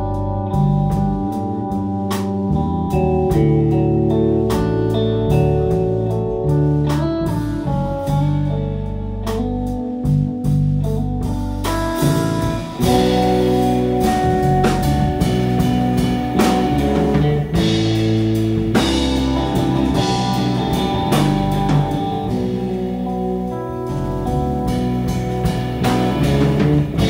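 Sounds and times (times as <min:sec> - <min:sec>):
drum kit and cymbals: 0:00.0 - 0:27.0
electric bass: 0:00.0 - 0:27.0
electric guitar: 0:00.0 - 0:27.0.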